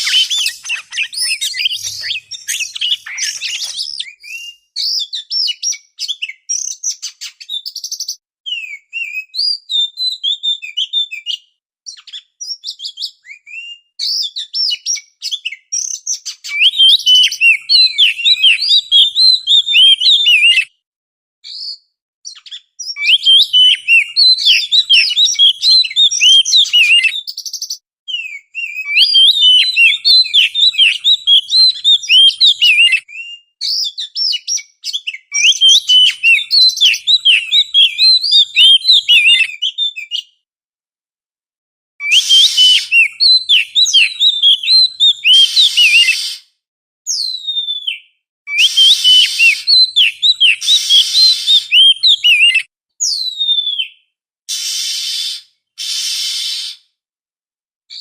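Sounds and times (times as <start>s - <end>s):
magpie-robin singing: 0.0s - 20.7s, 21.5s - 40.3s, 42.0s - 46.4s, 47.1s - 54.0s.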